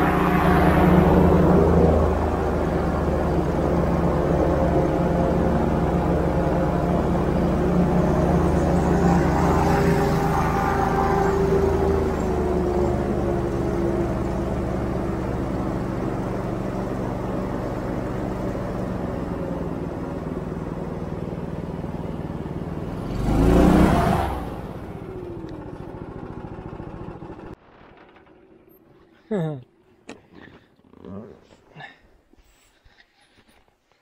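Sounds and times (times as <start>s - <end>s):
airboat engine and propeller: 0.0s - 28.4s.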